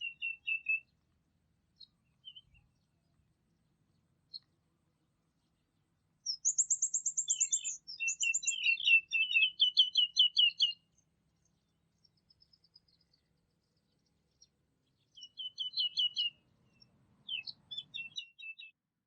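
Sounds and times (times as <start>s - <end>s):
songbird trilling and chirping: 0.0s - 1.0s, 1.7s - 3.2s, 3.9s - 4.6s, 5.4s - 18.8s.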